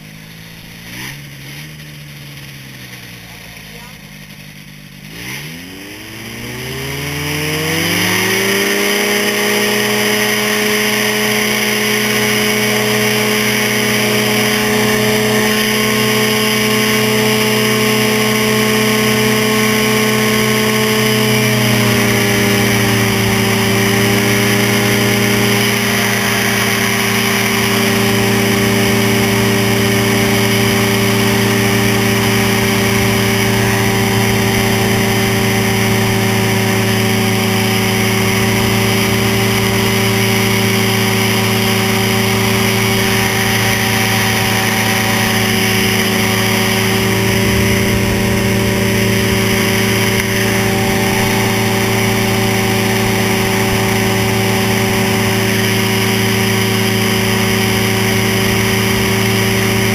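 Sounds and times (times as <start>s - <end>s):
ultralight engine and propeller: 0.0s - 59.9s.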